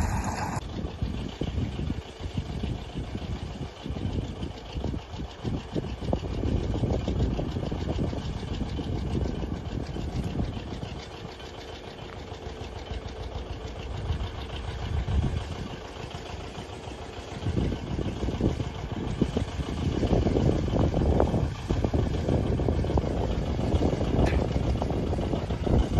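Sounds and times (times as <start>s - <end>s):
diesel tractor engine running: 0.0s - 25.9s.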